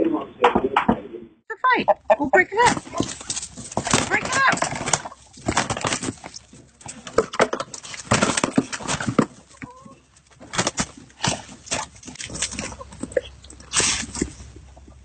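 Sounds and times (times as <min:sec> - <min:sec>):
chickens flapping wings: 0:02.6 - 0:14.6.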